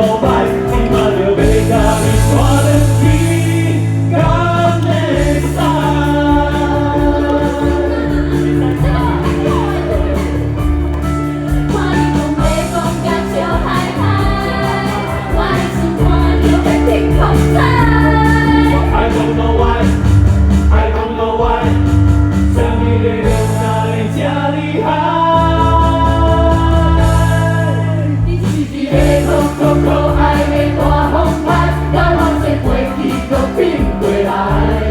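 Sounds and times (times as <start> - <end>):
live band with steady beat: 0.0 - 34.9
several voices singing: 0.0 - 34.9.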